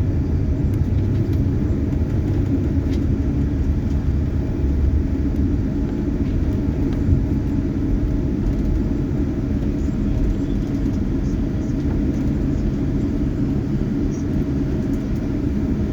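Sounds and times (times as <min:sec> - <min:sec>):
airliner cabin rumble: 0:00.0 - 0:15.9.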